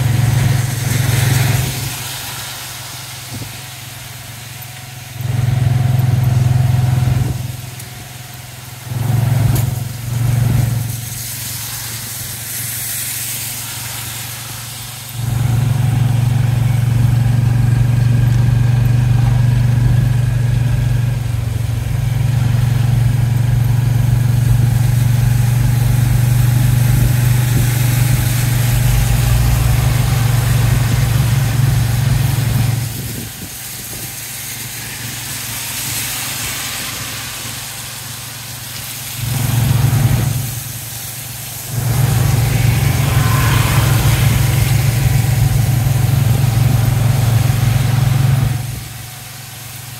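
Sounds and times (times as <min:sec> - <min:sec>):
motor rickshaw engine running: 0:00.0 - 0:49.9.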